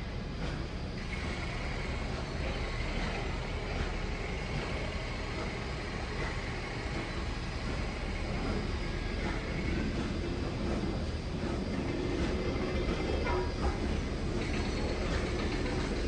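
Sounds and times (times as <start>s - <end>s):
train idling rumble: 0.0s - 16.0s.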